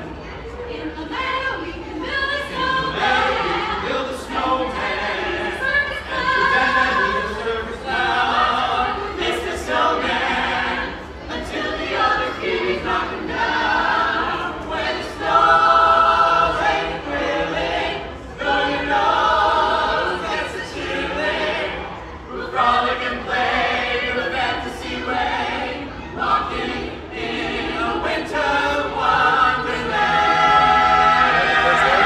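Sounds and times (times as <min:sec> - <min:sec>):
choir singing a cappella: 0:00.0 - 0:32.0.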